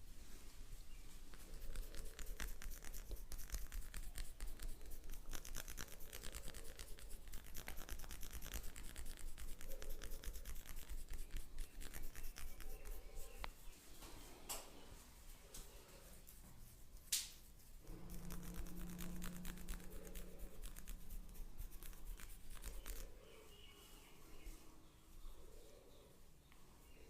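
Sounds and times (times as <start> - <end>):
dry scratching and rubbing: 0.0 - 14.0, 15.0 - 25.9.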